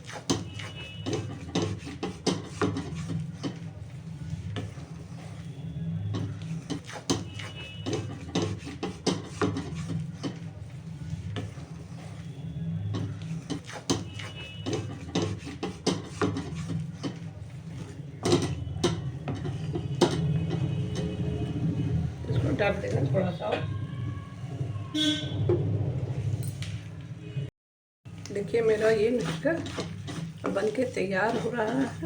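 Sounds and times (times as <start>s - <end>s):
utensil scraping a pan: 0.0s - 25.4s, 28.3s - 32.0s.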